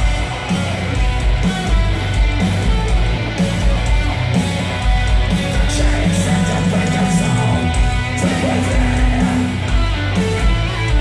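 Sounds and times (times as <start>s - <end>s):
distorted electric guitars: 0.0s - 11.0s.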